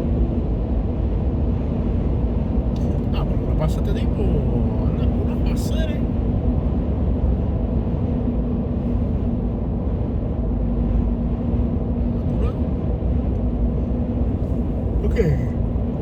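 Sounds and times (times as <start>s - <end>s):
constant low hum: 0.0s - 16.0s
road and engine rumble: 0.0s - 16.0s.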